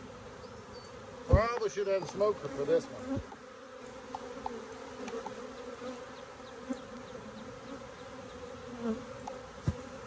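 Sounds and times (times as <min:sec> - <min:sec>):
bees buzzing: 0:00.0 - 0:10.0
single bee passing close: 0:00.0 - 0:10.0.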